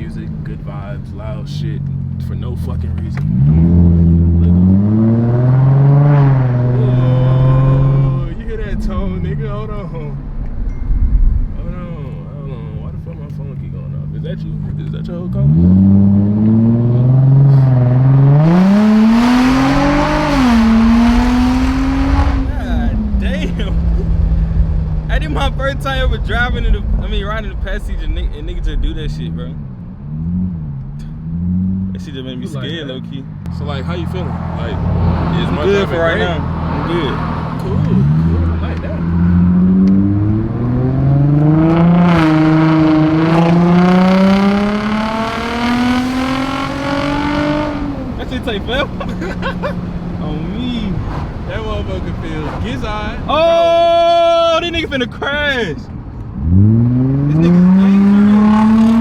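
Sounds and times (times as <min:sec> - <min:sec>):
loud car exhaust accelerating: 0:00.0 - 0:59.0.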